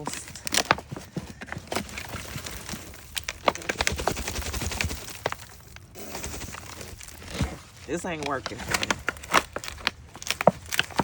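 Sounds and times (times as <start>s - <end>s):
digging through soil: 0.0s - 11.0s
sharp crackles and clicks: 1.7s - 11.0s.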